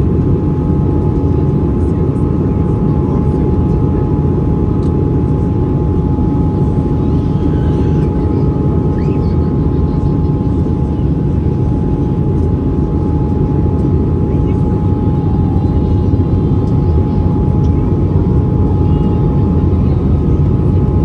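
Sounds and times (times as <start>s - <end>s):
jet engine cabin rumble: 0.0s - 21.0s
steady whine tones: 0.0s - 21.0s.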